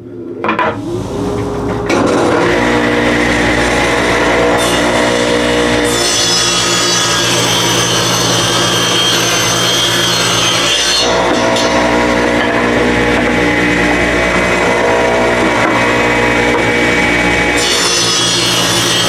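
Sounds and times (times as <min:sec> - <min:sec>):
power saw cutting wood: 0:00.6 - 0:19.0.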